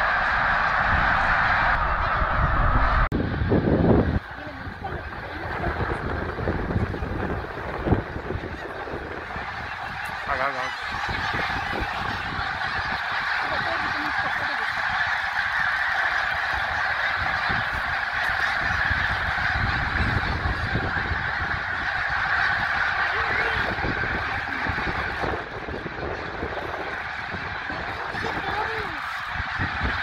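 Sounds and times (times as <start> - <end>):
geese honking in flight: 0.0 - 30.0.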